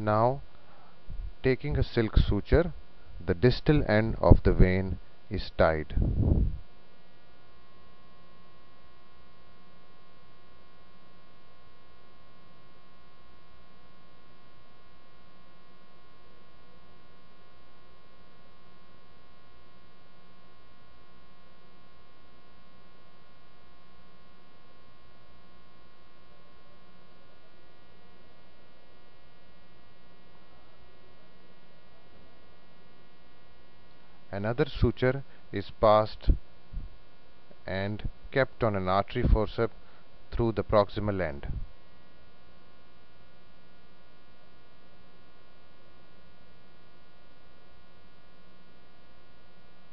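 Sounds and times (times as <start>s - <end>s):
electrical mains hum: 0.0s - 49.9s.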